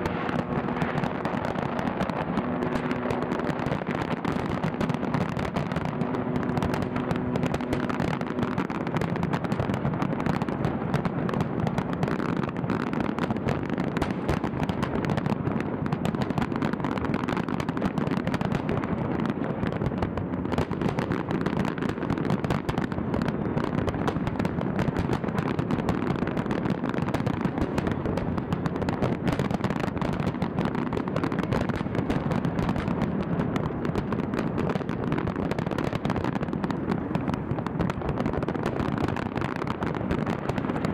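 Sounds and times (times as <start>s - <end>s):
firework bursts and crackling: 0.0s - 40.9s.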